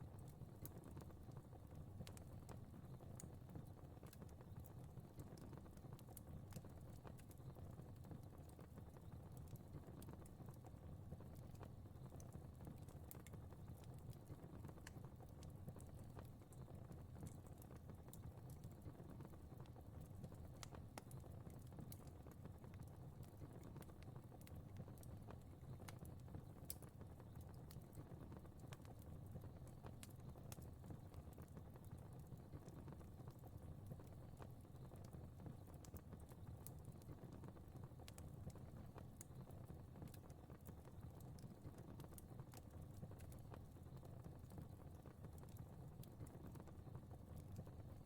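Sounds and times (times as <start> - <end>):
fire crackling: 0.0 - 48.0.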